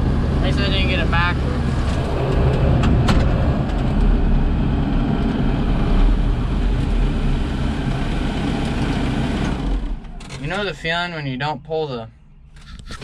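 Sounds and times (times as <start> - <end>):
tractor diesel engine running: 0.0 - 11.1.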